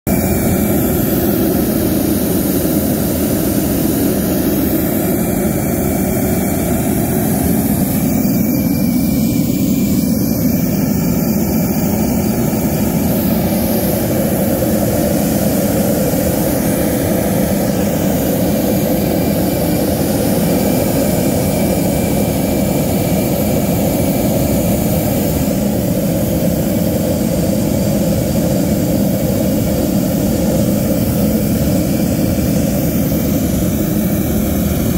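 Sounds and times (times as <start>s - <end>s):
oil burner flame roaring: 0.1s - 34.9s.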